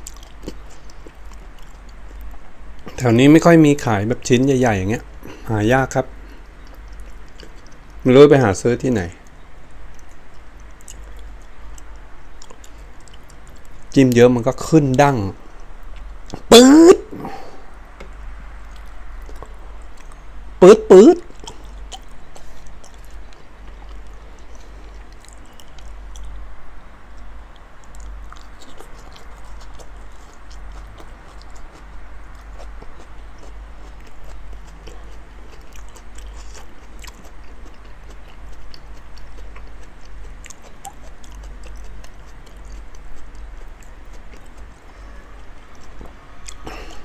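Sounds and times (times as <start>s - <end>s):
person chewing wetly: 0.0s - 3.0s, 5.0s - 8.0s, 9.2s - 14.0s, 15.3s - 16.5s, 17.1s - 20.3s, 21.2s - 26.4s, 27.1s - 47.0s
low steady rumble: 0.0s - 47.0s.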